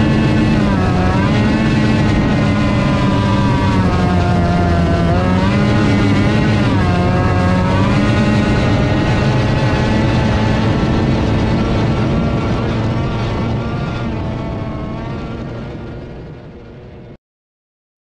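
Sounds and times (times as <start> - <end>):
wind rushing: 0.0 - 16.3
outboard motor running hard: 0.0 - 17.2.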